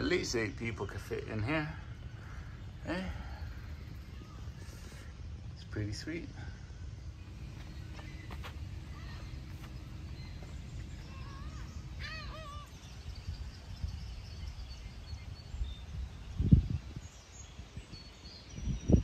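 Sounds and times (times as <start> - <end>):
low outdoor rumble: 0.0 - 15.6
bird chirping: 0.0 - 19.0.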